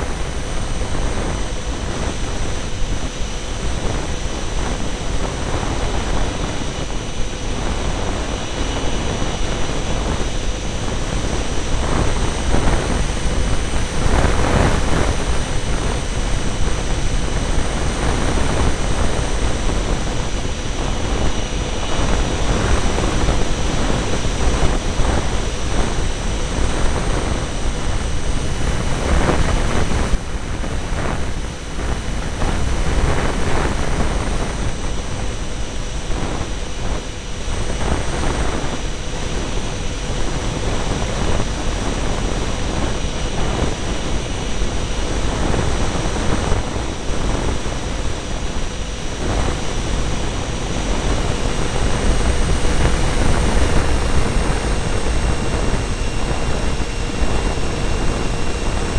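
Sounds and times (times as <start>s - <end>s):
electric ducted fans whining: 0.0s - 58.9s
wind buffeting microphone: 0.0s - 58.9s.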